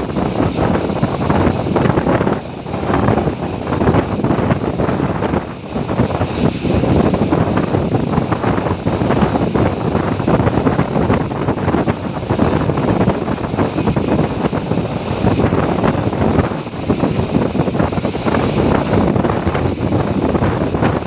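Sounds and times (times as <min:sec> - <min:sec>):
diesel train rumbling: 0:00.0 - 0:21.0
wind buffeting microphone: 0:00.0 - 0:21.0.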